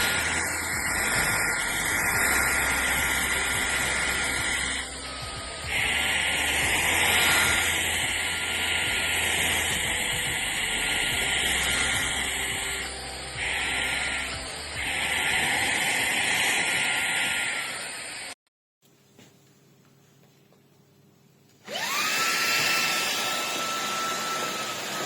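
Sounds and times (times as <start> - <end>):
stick vacuum running: 0.0 - 18.4, 21.6 - 25.0.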